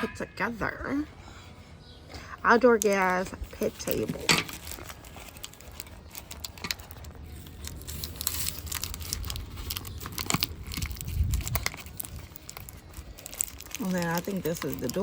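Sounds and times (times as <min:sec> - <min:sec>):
paper crinkling and rustling: 0:02.5 - 0:15.0.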